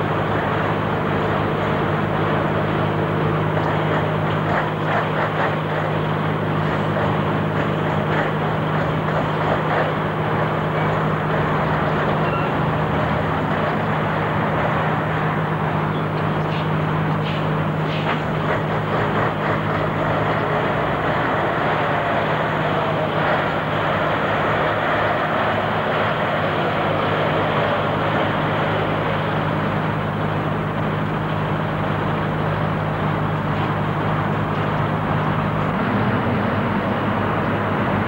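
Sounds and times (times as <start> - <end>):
diesel engines idling: 0.0 - 38.0.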